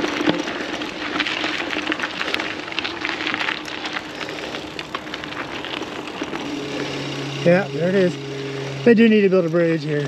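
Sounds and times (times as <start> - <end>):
bike tyres crackling on dirt: 0.0 - 10.0
faint steady hum: 0.0 - 10.0.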